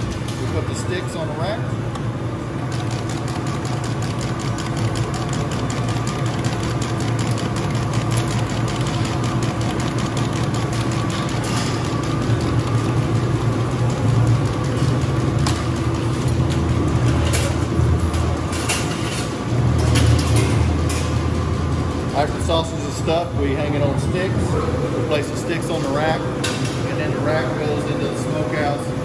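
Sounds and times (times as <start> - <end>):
sausage machine motor hum: 0.0 - 26.4.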